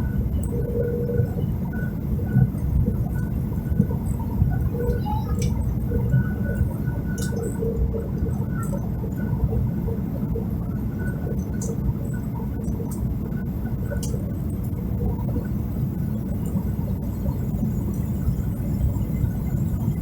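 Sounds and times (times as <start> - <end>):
airliner cabin engine rumble: 0.0 - 20.0
faint hum: 0.0 - 20.0.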